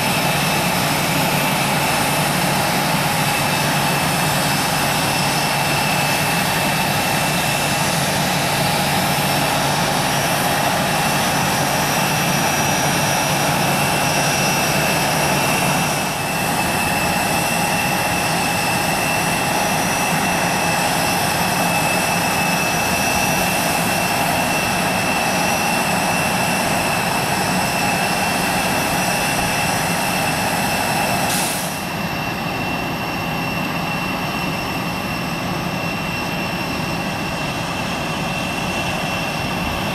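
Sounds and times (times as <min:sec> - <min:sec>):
distant jet engine: 0:00.0 - 0:39.9
jet engines idling whine: 0:00.0 - 0:39.9.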